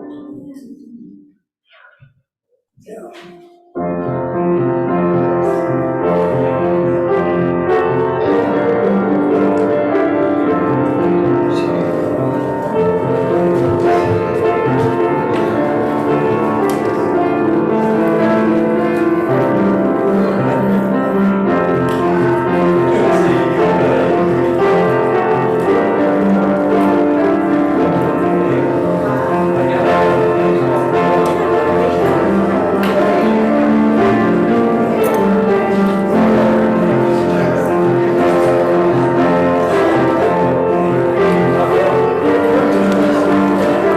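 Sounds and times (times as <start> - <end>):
keyboard playing slow chords: 2.9 - 43.9.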